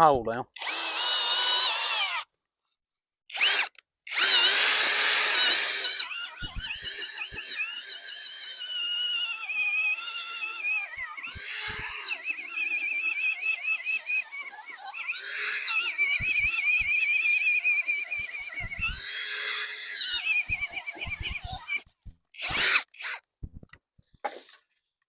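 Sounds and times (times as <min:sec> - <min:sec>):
power drill motor whine: 0:00.6 - 0:02.3, 0:03.3 - 0:23.3.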